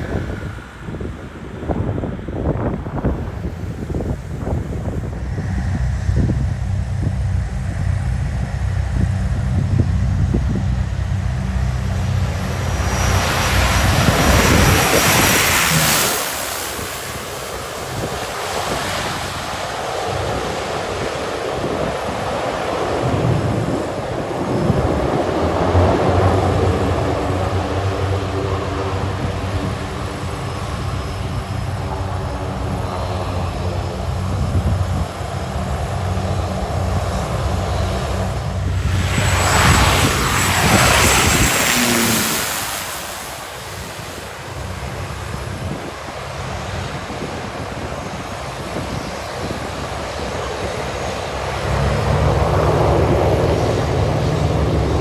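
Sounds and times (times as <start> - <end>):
propeller aircraft passing: 0.0 - 55.0
wind buffeting microphone: 0.0 - 55.0.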